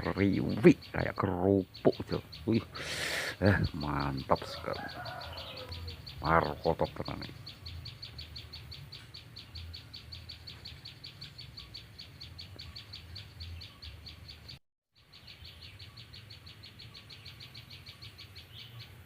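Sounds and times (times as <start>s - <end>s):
songbird fast high chirps: 0.0s - 19.0s.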